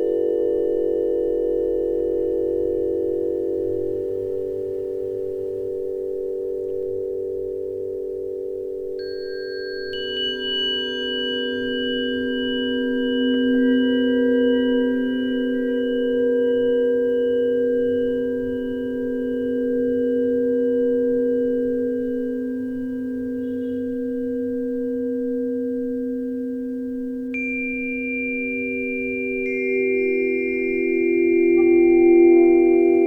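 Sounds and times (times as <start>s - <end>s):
tuning forks ringing: 0.0s - 33.0s.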